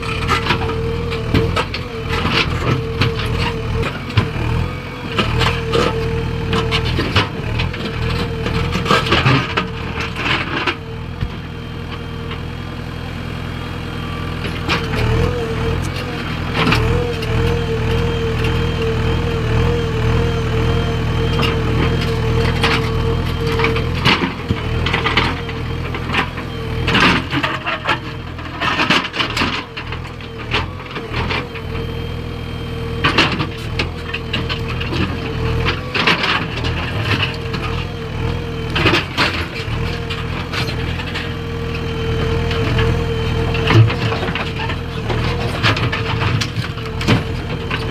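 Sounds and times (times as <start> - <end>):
diesel engine whining: 0.0 - 47.9.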